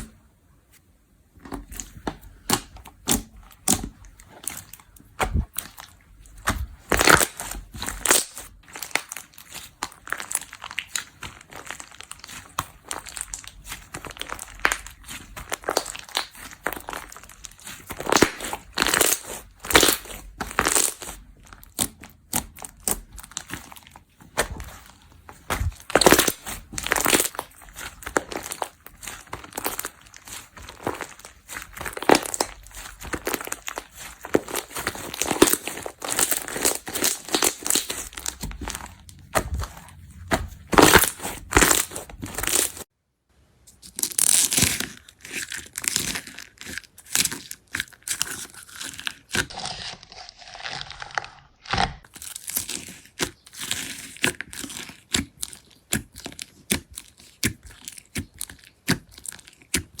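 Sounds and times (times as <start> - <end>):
slime crackling and popping: 1.7 - 42.9, 43.8 - 60.0.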